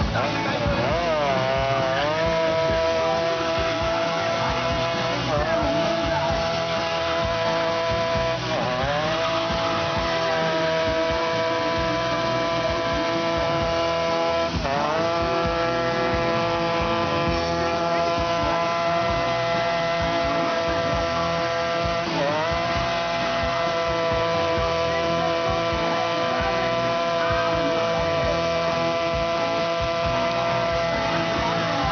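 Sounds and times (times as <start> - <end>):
motorcycle engine revving high: 0.0 - 31.9.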